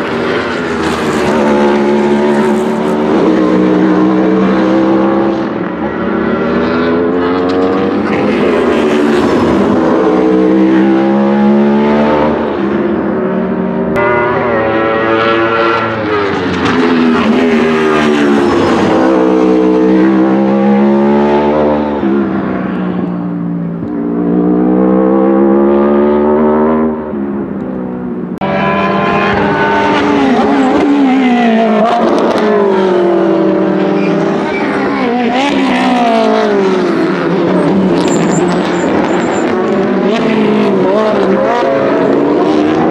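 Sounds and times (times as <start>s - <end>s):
race car engines at full throttle: 0.0s - 42.9s.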